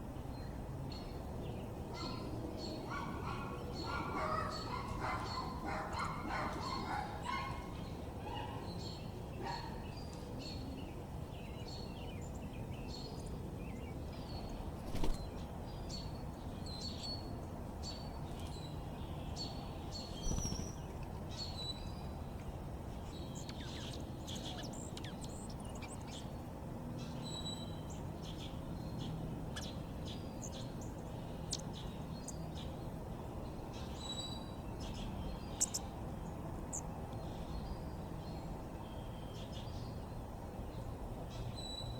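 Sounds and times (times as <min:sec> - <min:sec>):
small birds chirping: 0:00.4 - 0:22.2, 0:22.9 - 0:41.9.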